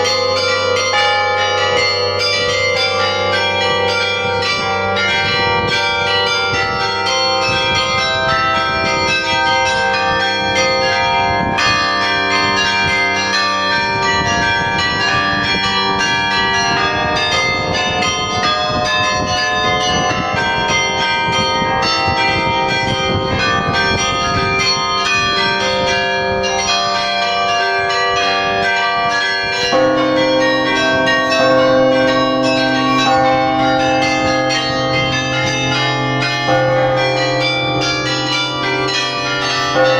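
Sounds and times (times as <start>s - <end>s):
carillon bells ringing: 0.0s - 39.9s
deeper bell: 0.0s - 39.9s.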